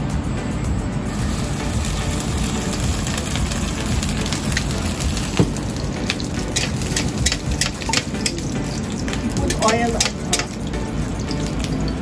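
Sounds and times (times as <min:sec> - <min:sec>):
batter sizzling in hot oil: 0:01.1 - 0:12.0.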